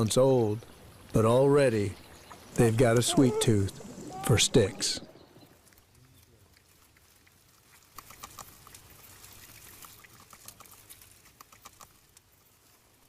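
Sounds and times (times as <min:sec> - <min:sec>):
beavers gnawing on sticks: 0:02.4 - 0:13.0.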